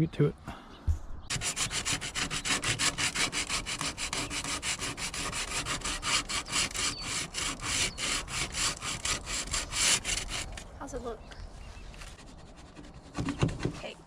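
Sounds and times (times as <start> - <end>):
sandpaper rubbing on filler: 1.3 - 10.6, 11.9 - 13.9.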